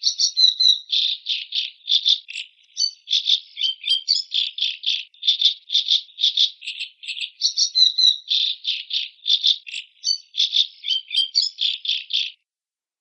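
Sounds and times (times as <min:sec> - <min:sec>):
macaw harsh rasping calls: 0:00.0 - 0:12.4.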